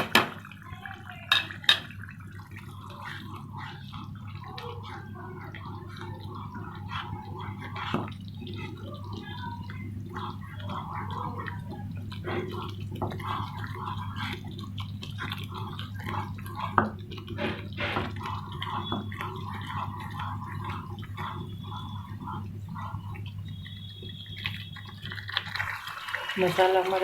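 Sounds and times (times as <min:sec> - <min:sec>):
paste frying and spluttering in oil: 0:00.0 - 0:27.0.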